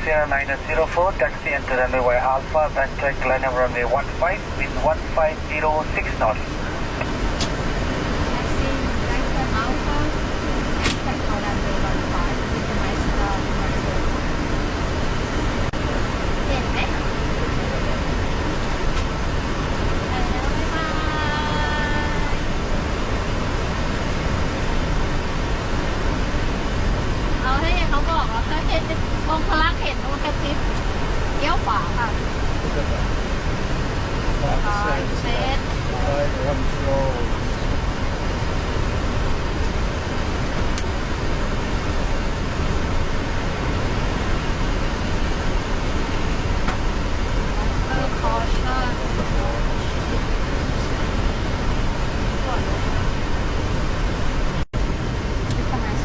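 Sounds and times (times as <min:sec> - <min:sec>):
jet cockpit engine noise: 0:00.0 - 0:56.0.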